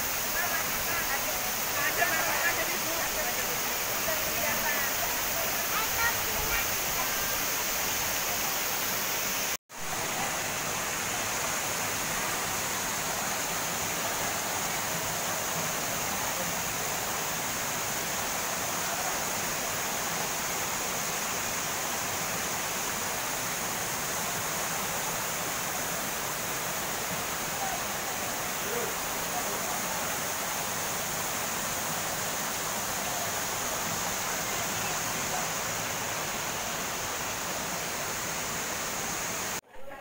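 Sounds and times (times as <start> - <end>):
waterfall rushing onto rocks: 0.0 - 39.6.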